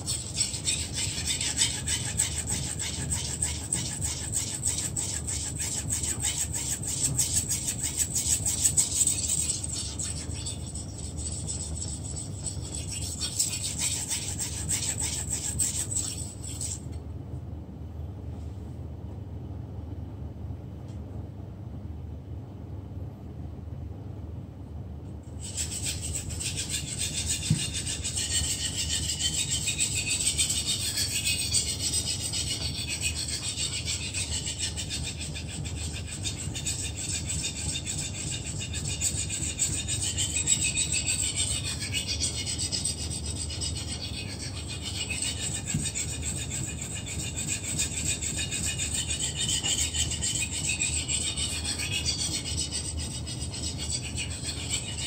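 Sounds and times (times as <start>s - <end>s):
knife scraping on whetstone: 0.0s - 16.9s, 25.4s - 55.0s.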